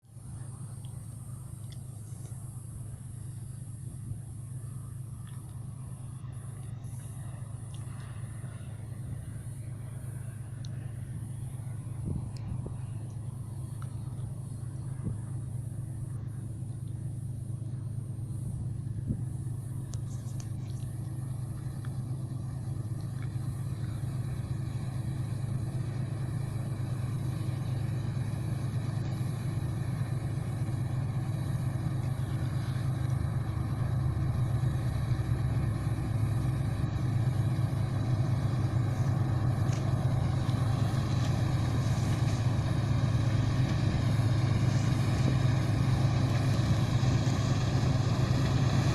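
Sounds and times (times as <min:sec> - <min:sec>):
combine harvester humming: 0:00.0 - 0:48.9.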